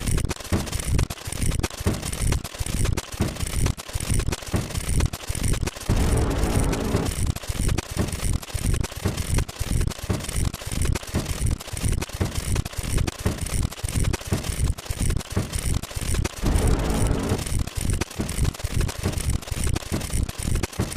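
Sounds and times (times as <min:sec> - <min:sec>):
fast mechanical clicking: 0:00.0 - 0:20.9.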